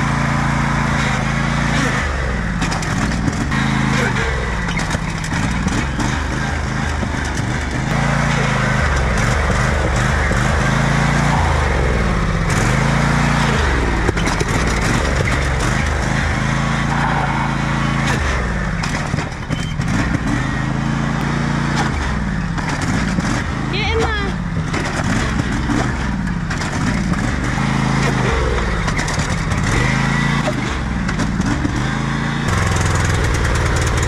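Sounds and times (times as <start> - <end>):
lawnmower engine revving: 0.0 - 34.0.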